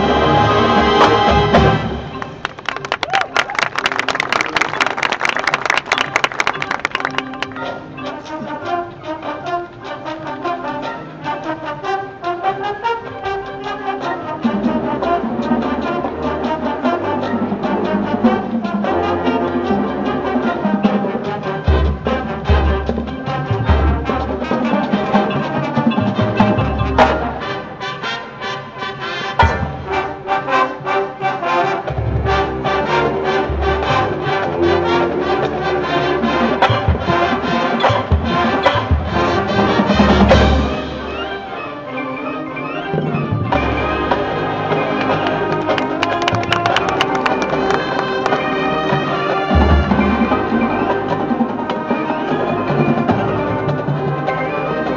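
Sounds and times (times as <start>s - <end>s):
marching band playing: 0.0s - 54.9s.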